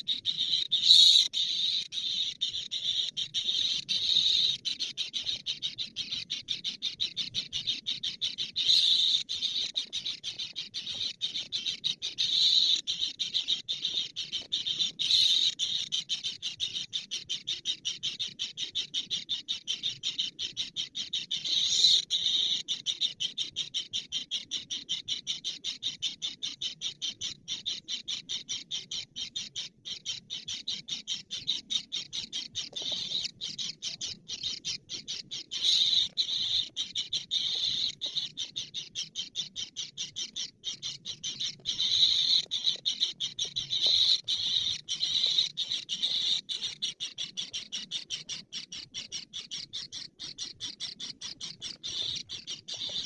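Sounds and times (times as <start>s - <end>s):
bird chirping rapidly: 0.0s - 53.0s.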